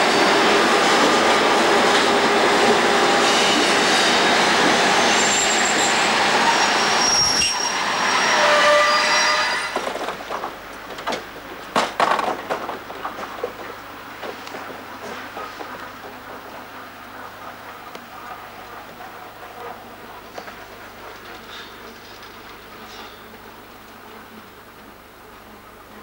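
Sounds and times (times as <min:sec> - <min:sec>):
wheels squealing on rails: 0:00.0 - 0:11.4, 0:12.9 - 0:23.4
locomotive and wagons rolling past: 0:02.0 - 0:24.6.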